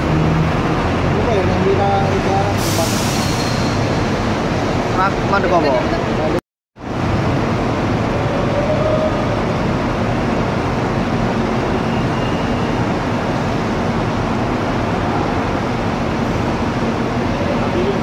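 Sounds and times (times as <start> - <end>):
bus engines rumbling: 0.0 - 18.0.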